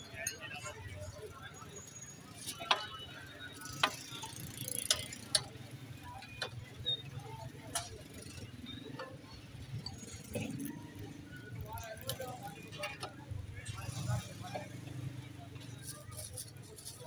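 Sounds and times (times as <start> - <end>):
low street hum: 0.0 - 17.0.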